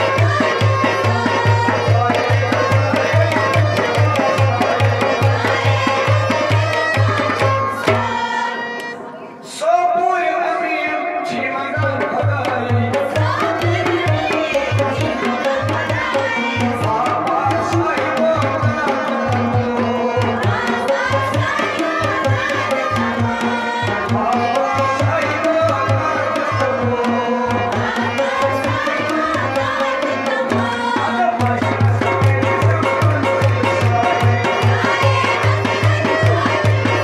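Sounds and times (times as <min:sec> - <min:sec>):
man singing: 0:00.0 - 0:07.6, 0:09.4 - 0:37.0
hand drum rhythm: 0:00.0 - 0:08.3, 0:11.9 - 0:37.0.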